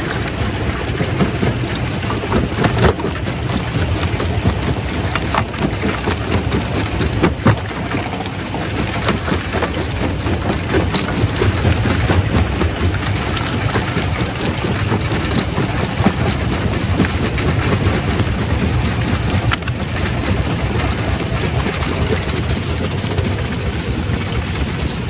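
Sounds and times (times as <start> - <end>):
rock crusher rumbling: 0.0 - 25.0
rocks knocking and cracking: 0.1 - 25.0.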